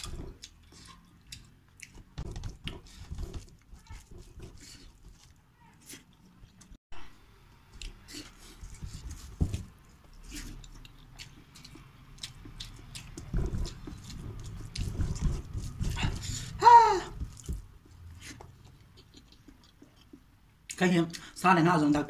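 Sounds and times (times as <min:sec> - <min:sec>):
chewing: 0:00.0 - 0:06.8, 0:07.7 - 0:16.6, 0:17.3 - 0:21.3.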